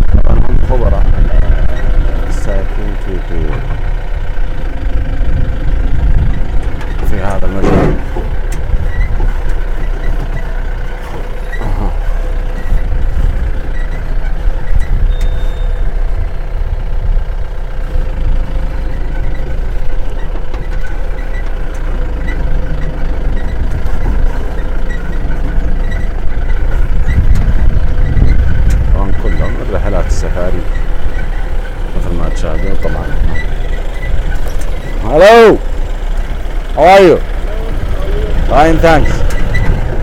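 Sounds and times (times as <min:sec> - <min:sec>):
vehicle engine and road rumble: 0:00.0 - 0:40.0
ticking rattle: 0:00.4 - 0:40.0.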